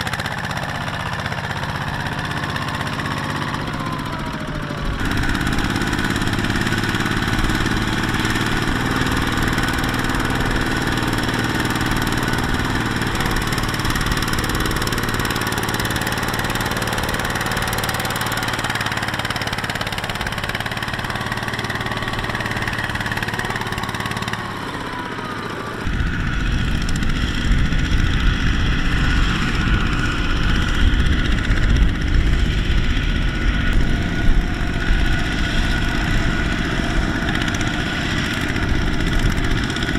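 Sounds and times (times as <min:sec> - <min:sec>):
rough low tractor engine: 0:00.0 - 0:39.9
single-cylinder diesel tractor engine: 0:00.0 - 0:39.9.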